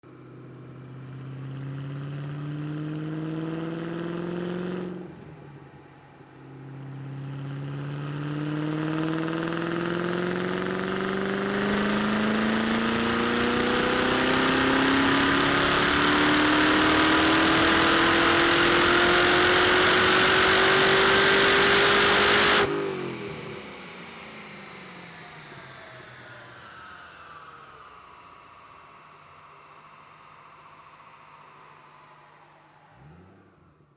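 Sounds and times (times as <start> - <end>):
car engine revving on dyno: 1.1 - 5.7, 7.1 - 33.9.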